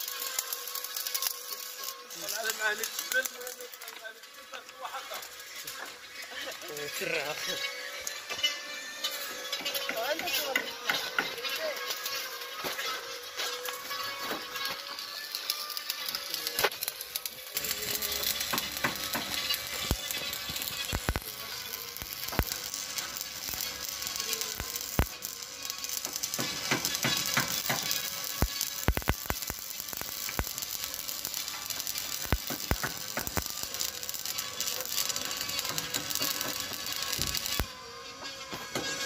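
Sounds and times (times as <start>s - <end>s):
welding arc hissing and crackling: 0.0s - 39.0s.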